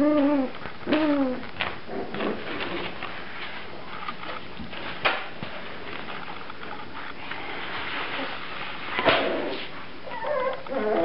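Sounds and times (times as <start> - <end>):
puppies scuffling on tiles: 0.1 - 11.0.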